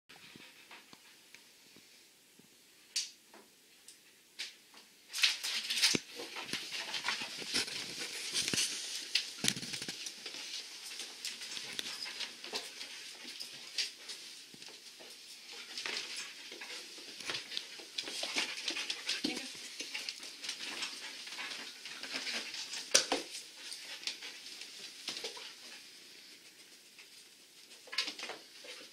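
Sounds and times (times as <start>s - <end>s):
rustling movement: 5.1s - 28.9s.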